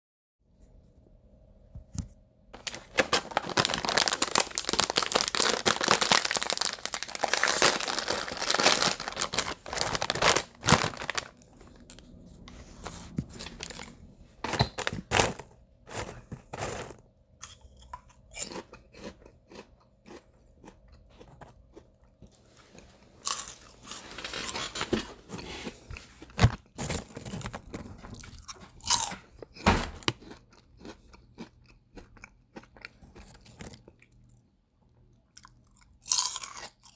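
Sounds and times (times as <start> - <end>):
person crunching potato chips: 2.6 - 22.3, 23.2 - 34.4, 35.3 - 36.9.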